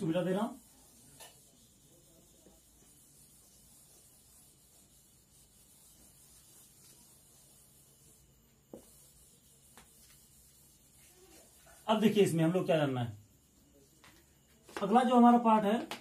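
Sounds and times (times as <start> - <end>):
duster rubbing on whiteboard: 0.0 - 15.4.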